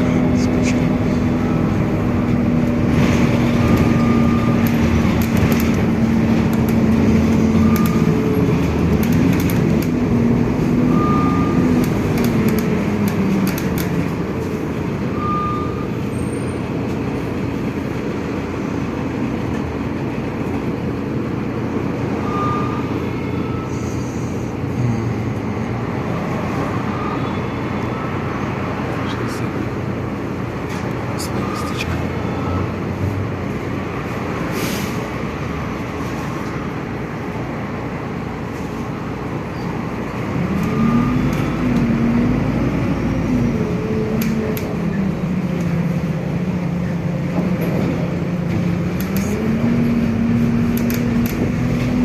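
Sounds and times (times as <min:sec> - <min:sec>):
bus engine running: 0:00.0 - 0:52.0
road and tyre noise: 0:00.0 - 0:52.0.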